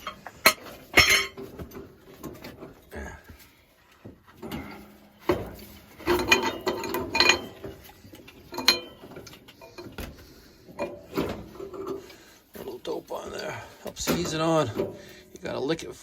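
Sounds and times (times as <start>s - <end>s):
metal pipe fittings clanking: 0.0s - 3.1s, 4.0s - 15.6s.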